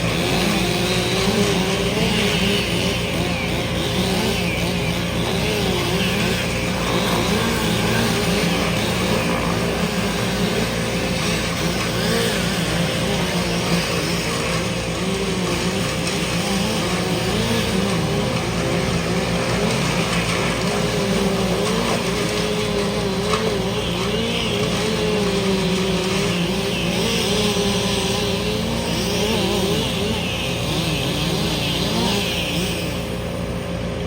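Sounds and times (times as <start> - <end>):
engine with wavering pitch: 0.0 - 34.0
low machine hum: 0.0 - 34.0.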